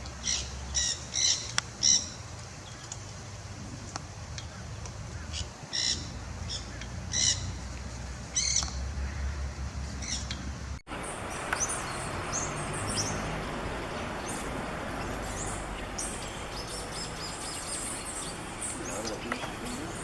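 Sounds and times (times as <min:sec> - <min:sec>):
small birds chirping: 0:00.0 - 0:20.0
bird harsh calls: 0:00.2 - 0:03.1, 0:04.4 - 0:20.0.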